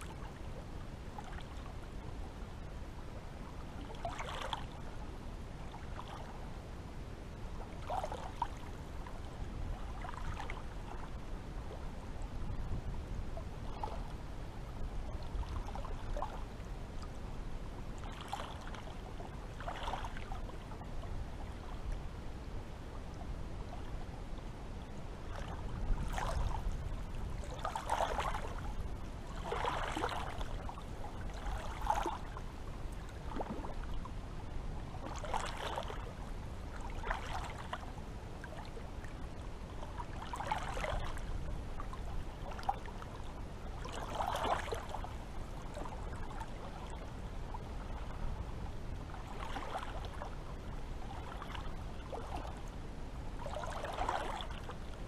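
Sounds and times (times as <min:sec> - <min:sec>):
low steady rumble: 0:00.0 - 0:55.0
sea water lapping and splashing: 0:00.0 - 0:55.0.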